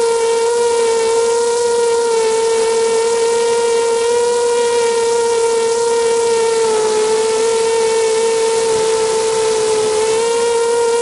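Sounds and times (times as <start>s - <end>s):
drone motors whining: 0.0s - 11.0s
wind hiss: 0.0s - 11.0s.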